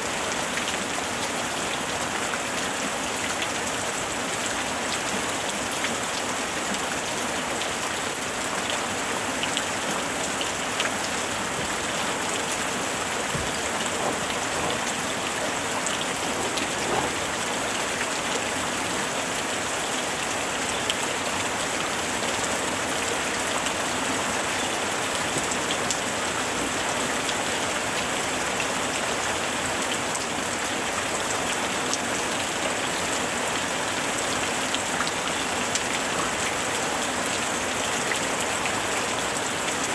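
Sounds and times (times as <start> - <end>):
rain drops pattering on a surface: 0.0 - 39.9.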